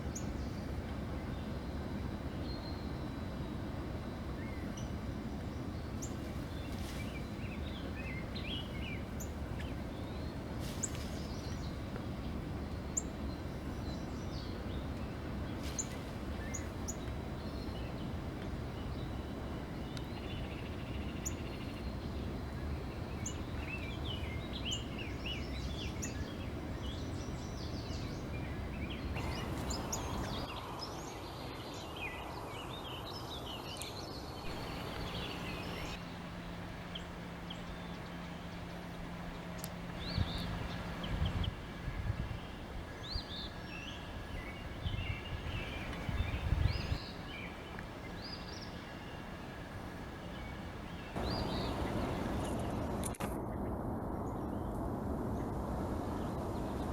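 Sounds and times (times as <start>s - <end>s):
low background rumble: 0.0s - 56.9s.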